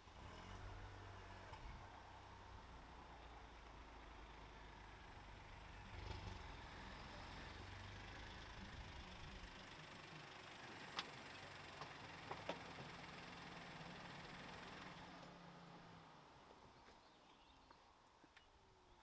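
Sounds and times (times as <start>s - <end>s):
faint car engine running: 0.0s - 18.1s.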